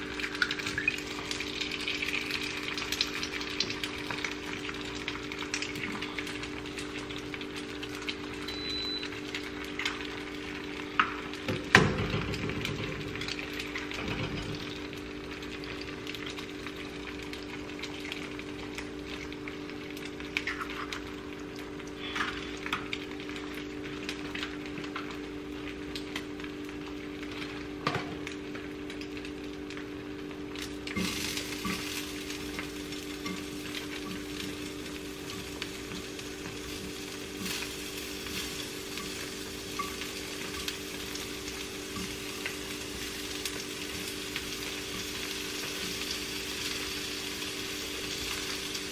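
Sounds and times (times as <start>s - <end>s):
eggs sizzling in a pan: 0.0s - 48.9s.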